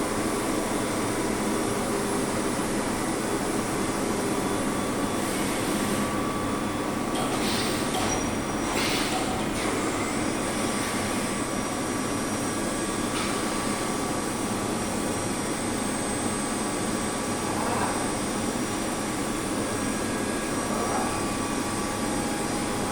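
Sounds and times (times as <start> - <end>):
milling machine humming: 0.0 - 22.9.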